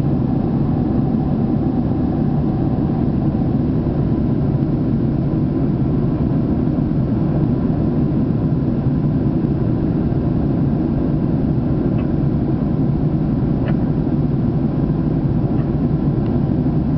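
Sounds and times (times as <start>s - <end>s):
airplane rumble: 0.0s - 16.9s.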